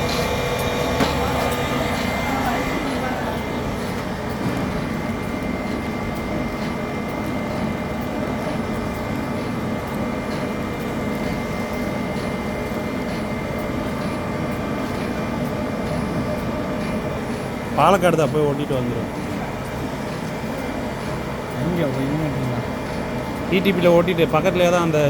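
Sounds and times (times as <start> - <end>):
machinery humming: 0.0 - 25.0
machinery whining tones: 0.0 - 25.0.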